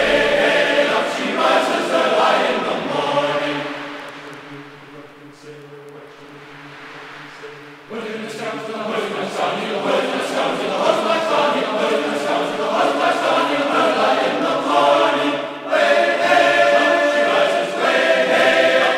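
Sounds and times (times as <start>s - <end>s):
choir singing long notes: 0.0s - 18.9s.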